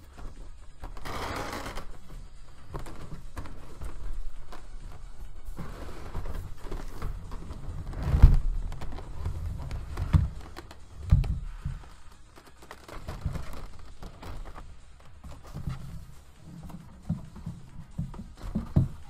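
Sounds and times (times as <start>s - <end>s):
cardboard and plastic scuffing: 1.6s - 19.0s.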